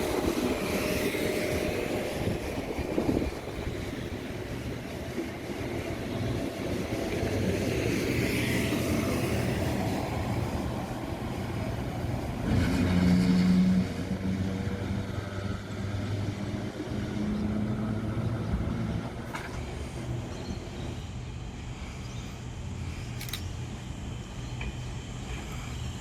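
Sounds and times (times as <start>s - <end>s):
electric train humming: 0.0s - 26.0s.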